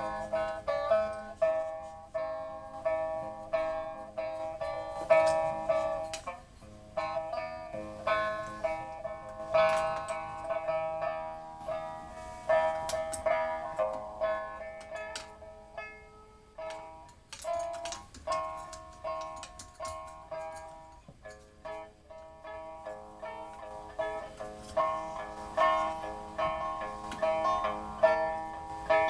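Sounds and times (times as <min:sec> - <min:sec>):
plucked string melody: 0:00.0 - 0:29.0.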